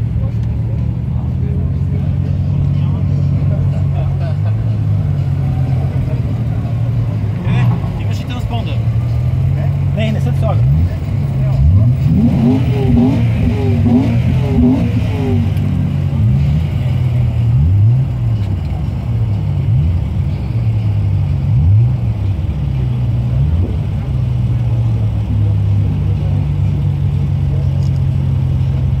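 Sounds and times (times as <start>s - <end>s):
car engine idling: 0.0s - 29.0s
car engine revving: 0.0s - 29.0s.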